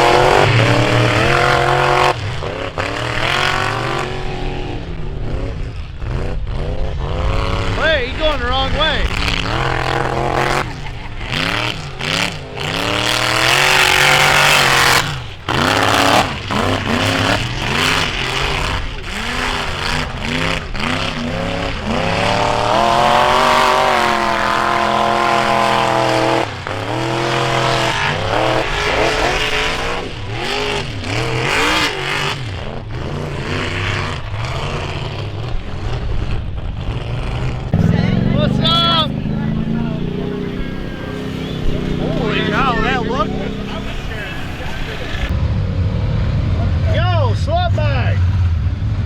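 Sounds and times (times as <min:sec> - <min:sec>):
off-road vehicle engine revving: 0:00.0 - 0:49.0.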